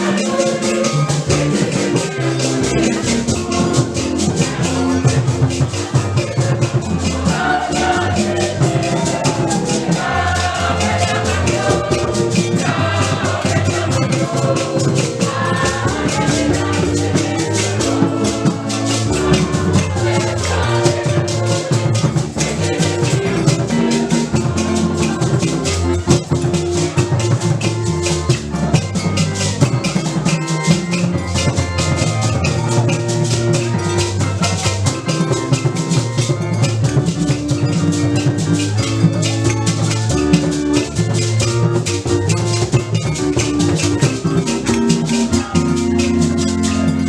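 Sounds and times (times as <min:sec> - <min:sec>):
drums and shakers beat: 0:00.0 - 0:47.0.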